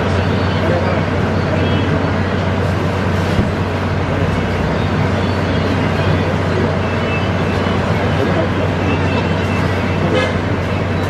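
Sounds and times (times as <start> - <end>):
gas burners roaring: 0.0 - 11.0.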